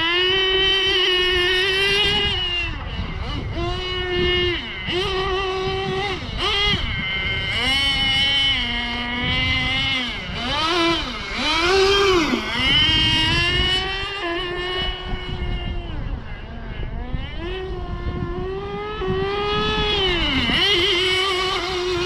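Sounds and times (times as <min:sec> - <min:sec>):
rc car engine revving: 0:00.0 - 0:22.0.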